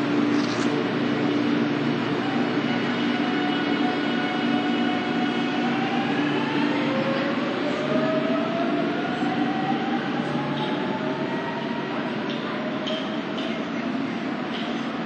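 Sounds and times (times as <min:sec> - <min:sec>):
electric train motor whine: 0:00.0 - 0:12.2
train rumble: 0:00.0 - 0:15.0.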